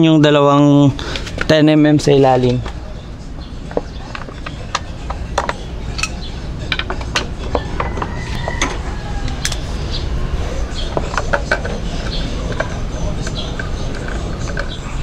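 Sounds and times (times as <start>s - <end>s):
steady low rumble: 2.2s - 15.0s.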